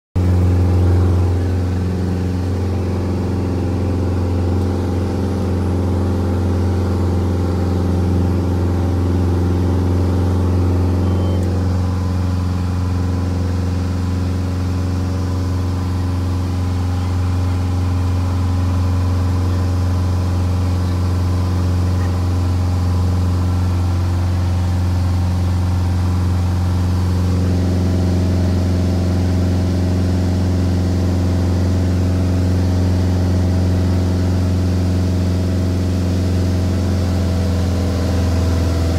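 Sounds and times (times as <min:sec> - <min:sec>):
light aircraft engine droning: 0:00.2 - 0:38.9.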